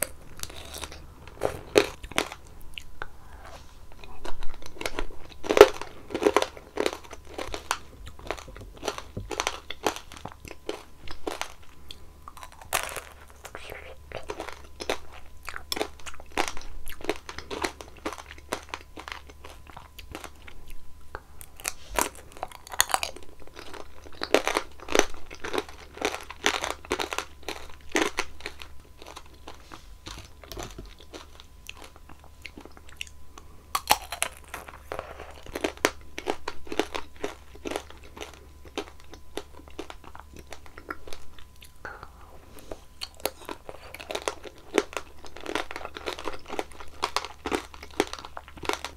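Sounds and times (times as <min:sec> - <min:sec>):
chewing: 0:00.0 - 0:48.9.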